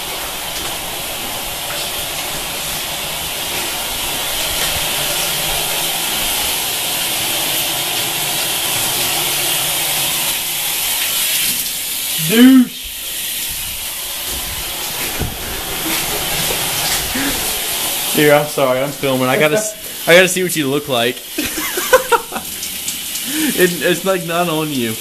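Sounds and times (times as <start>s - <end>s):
shower water spraying: 0.0s - 25.0s.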